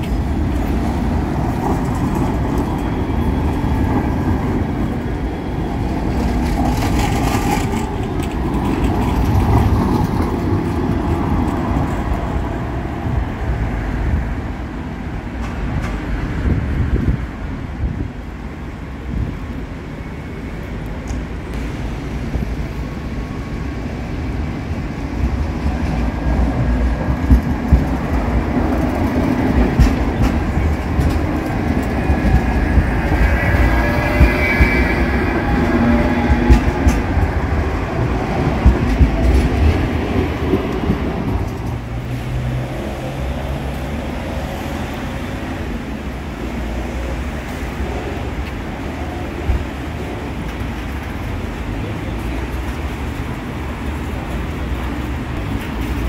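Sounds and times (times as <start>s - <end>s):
rail joint clacks: 0.0s - 14.2s, 15.3s - 17.2s, 24.7s - 56.0s
tram wheel rumble: 0.0s - 56.0s.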